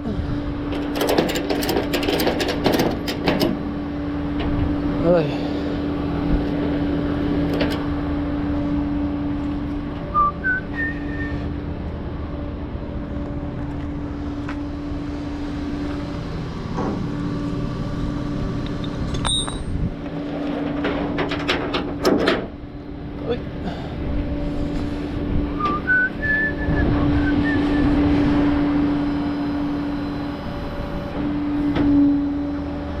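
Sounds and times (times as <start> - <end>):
truck engine droning hum: 0.0 - 33.0.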